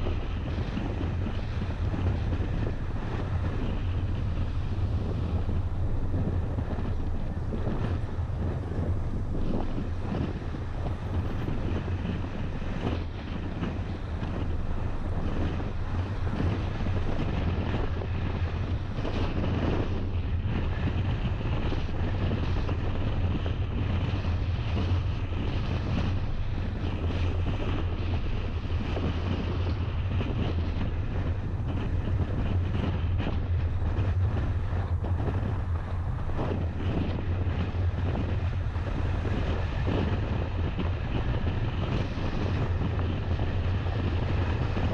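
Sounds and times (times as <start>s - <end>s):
car engine and tyre hum: 0.0s - 44.9s
wind buffeting microphone: 0.0s - 44.9s.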